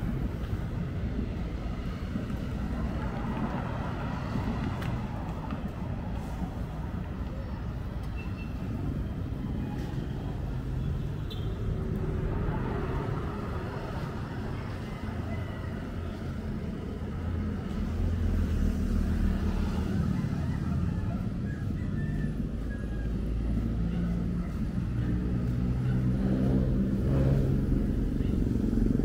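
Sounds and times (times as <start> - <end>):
vehicle traffic rumble: 0.0 - 29.0.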